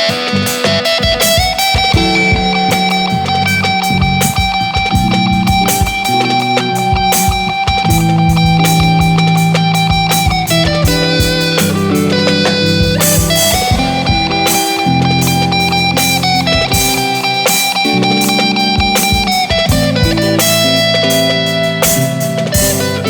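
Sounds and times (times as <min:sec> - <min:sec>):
instrumental rock music: 0:00.0 - 0:23.0.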